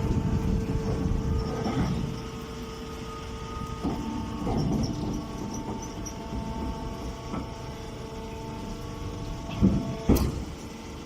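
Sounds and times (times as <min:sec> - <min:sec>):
machine humming and rumbling: 0:00.0 - 0:11.0.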